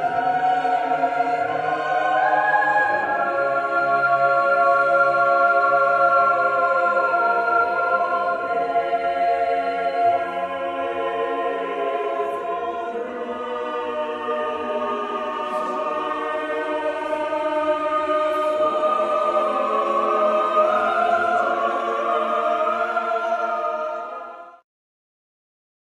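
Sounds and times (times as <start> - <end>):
choir holding long chords: 0.0 - 24.6.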